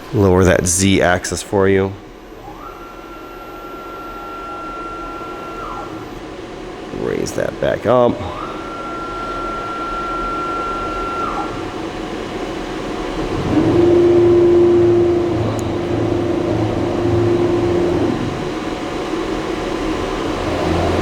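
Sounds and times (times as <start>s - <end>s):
steady machine hum: 0.0s - 21.0s
pulsing low hum: 2.0s - 21.0s
motors whining: 2.3s - 21.0s.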